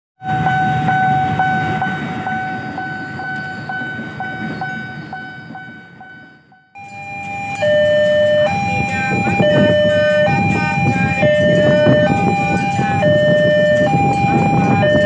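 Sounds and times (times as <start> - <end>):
level crossing warning bell: 0.2 - 15.0.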